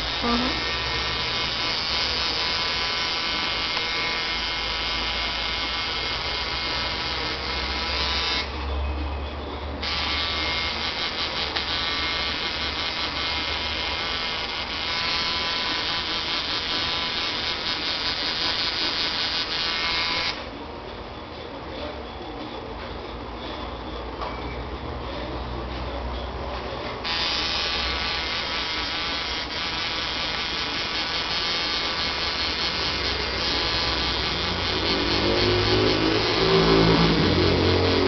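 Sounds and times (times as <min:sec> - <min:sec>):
tattoo machine buzzing: 0:00.0 - 0:09.0, 0:09.8 - 0:20.5, 0:27.0 - 0:38.0.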